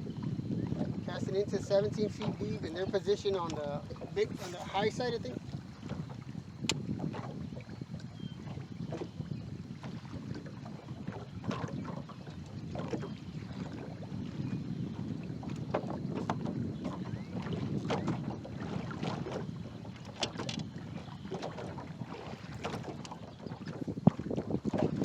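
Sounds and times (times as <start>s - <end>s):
water slapping boat hull: 0.0s - 25.0s
wind rumbling on microphone: 0.0s - 25.0s.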